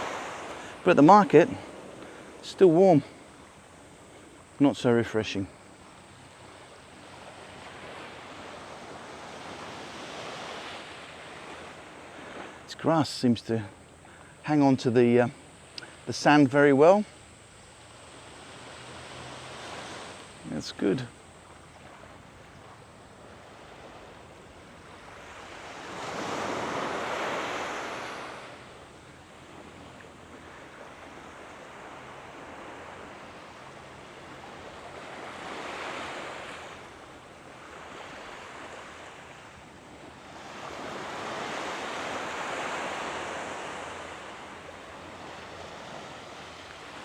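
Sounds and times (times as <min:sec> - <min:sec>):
waves washing up a beach: 0:00.0 - 0:47.0.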